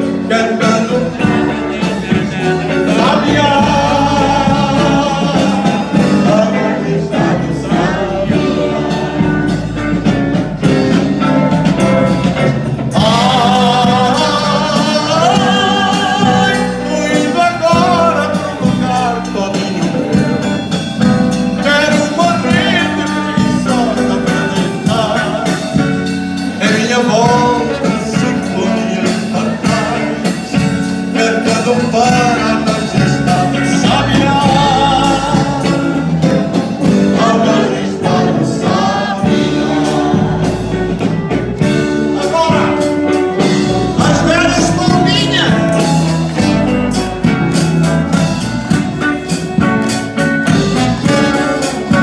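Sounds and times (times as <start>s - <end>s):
man singing through pa: 0.0s - 10.0s, 12.8s - 47.0s
live band with electric guitars: 0.0s - 52.0s.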